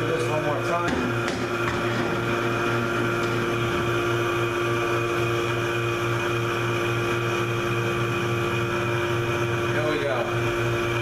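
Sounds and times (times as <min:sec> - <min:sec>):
electric vacuum pump humming: 0:00.0 - 0:11.0.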